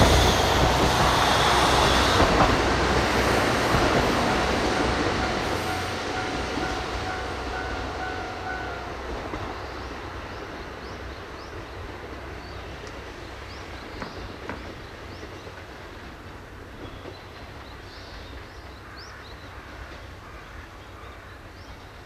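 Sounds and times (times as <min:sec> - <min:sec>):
diesel train engine rumble: 0:00.0 - 0:22.0.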